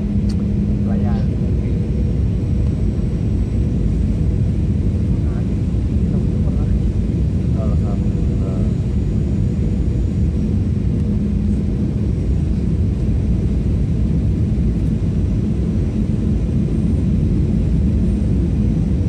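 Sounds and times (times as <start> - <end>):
airliner engines rumbling in cabin: 0.0 - 19.0
faint steady hum: 0.0 - 19.0.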